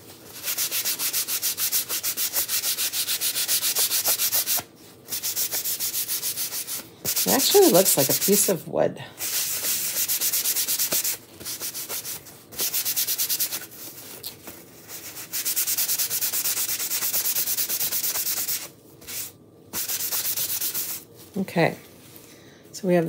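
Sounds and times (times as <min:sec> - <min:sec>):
paper towel rubbing on wood: 0:00.0 - 0:08.5, 0:09.2 - 0:14.2, 0:14.8 - 0:21.1.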